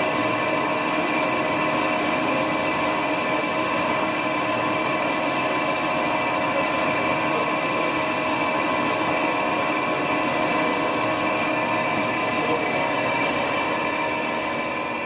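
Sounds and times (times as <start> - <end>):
lathe machine hum and whine: 0.0 - 15.0.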